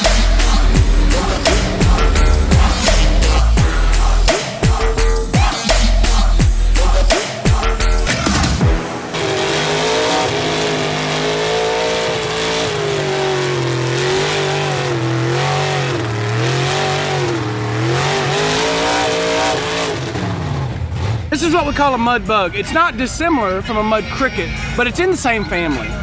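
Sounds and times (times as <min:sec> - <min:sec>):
truck engine revving hard: 0:00.0 - 0:21.7.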